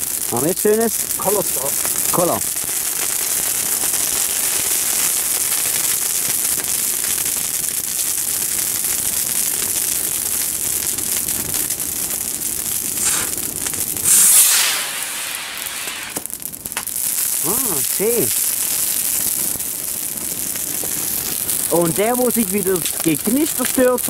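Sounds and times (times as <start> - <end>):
fire crackling and hissing: 0.0 - 24.0
firework hiss: 0.0 - 24.0.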